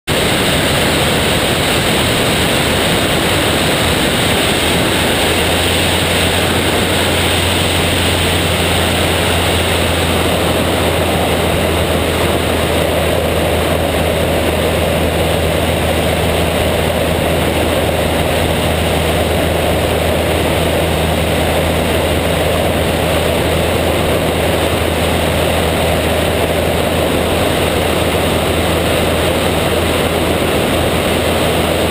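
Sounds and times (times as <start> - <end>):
plane engine and propeller: 0.1 - 31.9
wind rushing over microphone: 0.1 - 31.9.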